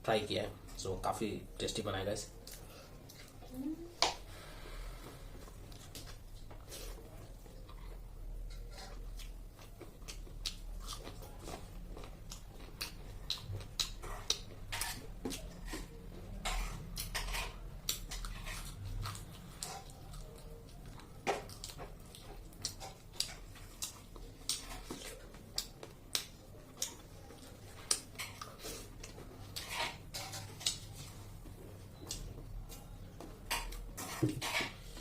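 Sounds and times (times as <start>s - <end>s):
crackles of eating: 0.2s - 35.0s
chewing and smacking: 5.4s - 34.0s.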